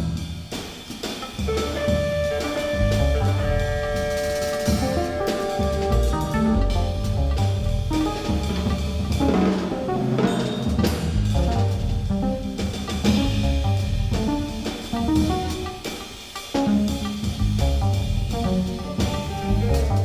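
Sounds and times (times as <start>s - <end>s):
busy drumming: 0.0s - 20.0s
improvised jazz quartet: 0.0s - 20.0s
low bass notes: 1.4s - 15.9s, 16.6s - 20.0s.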